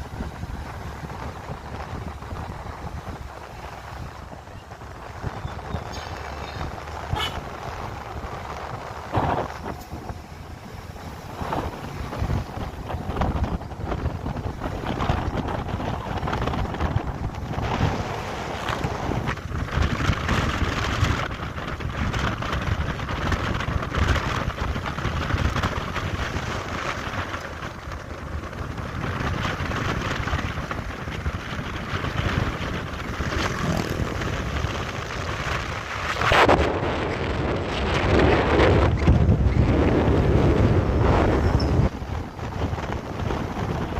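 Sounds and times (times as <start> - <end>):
vehicle engine running: 0.0 - 43.9
wind buffeting microphone: 0.0 - 43.9.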